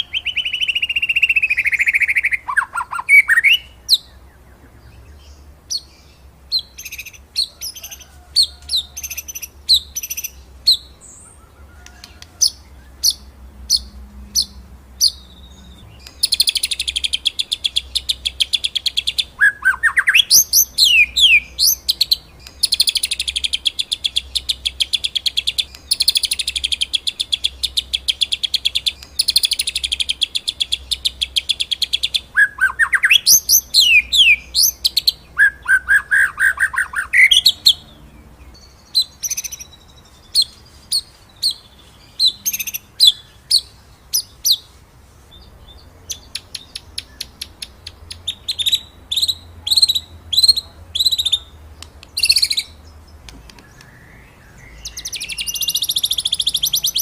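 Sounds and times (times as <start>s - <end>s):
songbird trilling and whistling: 0.0s - 37.9s, 38.6s - 44.7s, 45.3s - 57.0s.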